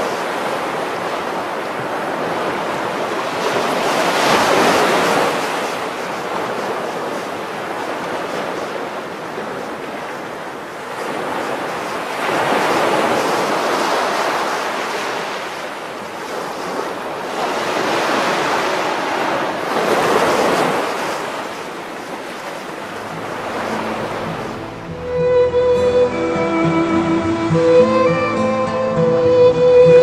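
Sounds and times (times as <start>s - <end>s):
sea waves washing in: 0.0s - 28.4s.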